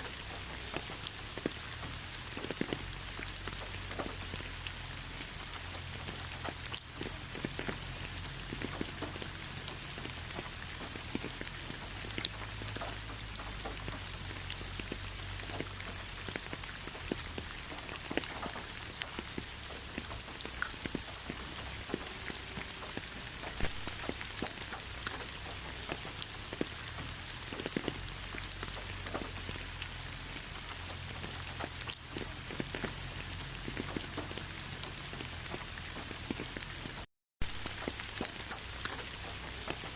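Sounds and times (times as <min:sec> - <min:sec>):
rain hissing: 0:00.0 - 0:39.9
raindrops ticking on a surface: 0:00.0 - 0:39.9.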